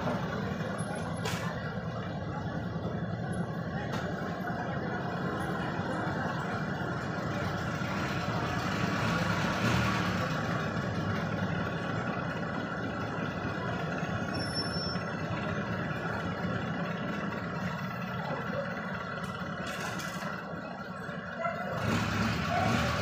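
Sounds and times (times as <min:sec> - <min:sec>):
engine idling: 0:00.0 - 0:23.0
vehicles passing: 0:00.0 - 0:23.0.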